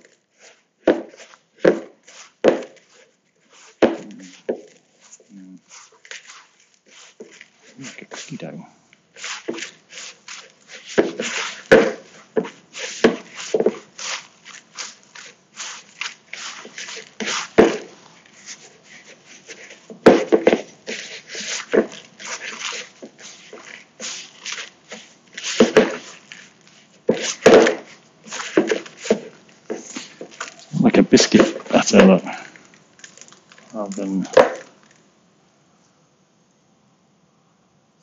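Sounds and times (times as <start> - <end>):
hands kneading wet dough: 0.0 - 34.6.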